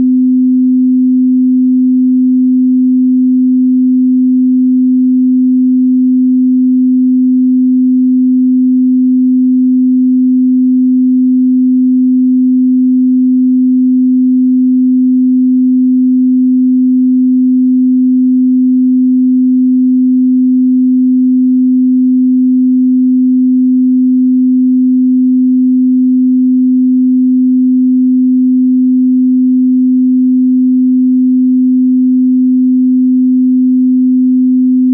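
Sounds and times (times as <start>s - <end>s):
sine wave test tone: 0.0s - 34.9s.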